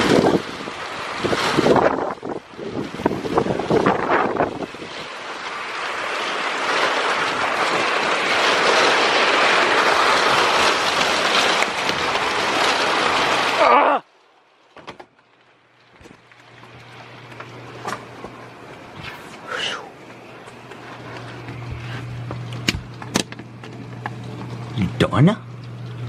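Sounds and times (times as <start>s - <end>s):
wind and rain roaring on microphone: 0.0s - 26.0s.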